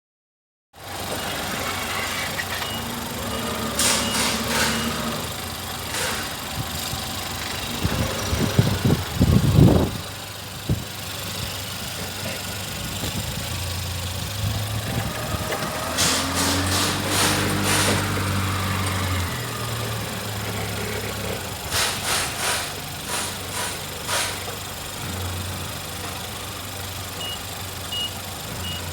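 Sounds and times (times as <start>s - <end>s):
car engine idling: 0.8s - 28.9s.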